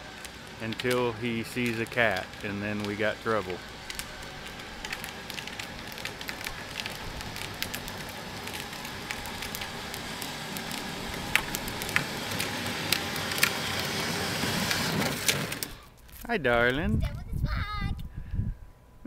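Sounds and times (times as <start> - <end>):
plastic toy car wheels rolling on asphalt: 0.0 - 16.2.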